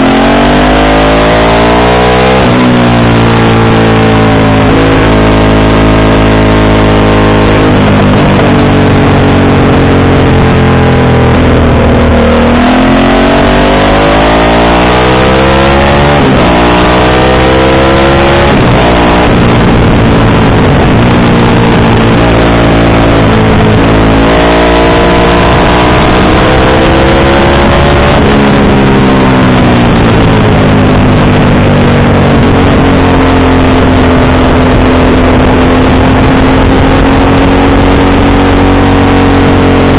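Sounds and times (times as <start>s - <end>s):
motorcycle engine accelerating: 0.0s - 39.9s
wind rush: 1.5s - 14.7s, 15.6s - 39.9s.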